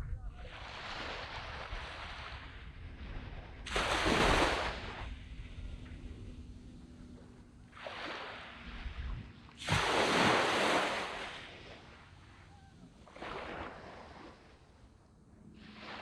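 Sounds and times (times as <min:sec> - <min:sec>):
waves breaking on beach: 0:00.3 - 0:16.0.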